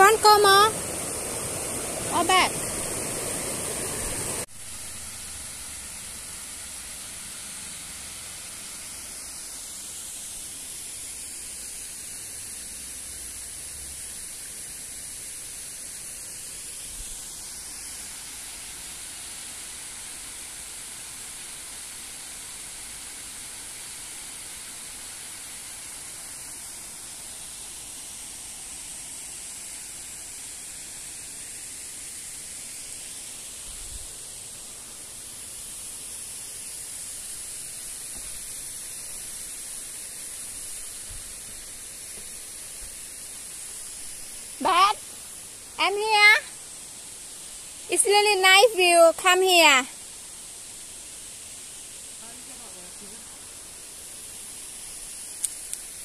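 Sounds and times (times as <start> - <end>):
waterfall hiss: 0.0 - 56.0.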